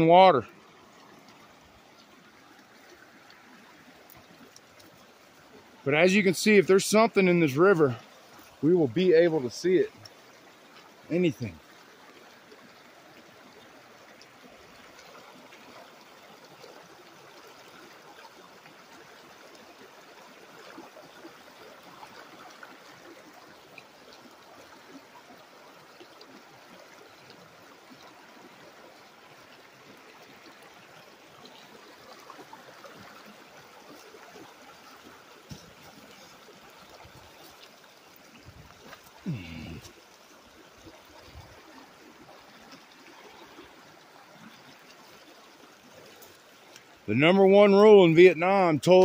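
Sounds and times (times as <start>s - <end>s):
creek trickling over rocks: 0.0s - 49.0s.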